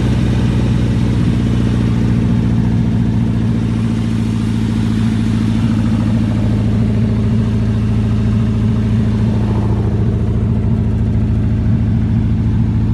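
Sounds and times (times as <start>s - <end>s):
tractor engine idling: 0.0s - 12.9s.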